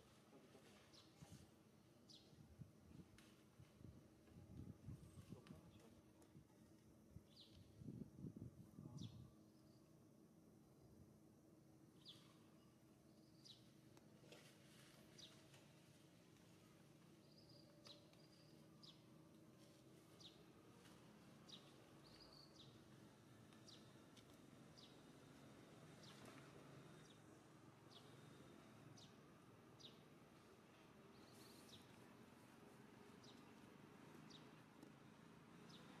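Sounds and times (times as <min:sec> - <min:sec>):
faint forest ambience: 0:00.0 - 0:36.0.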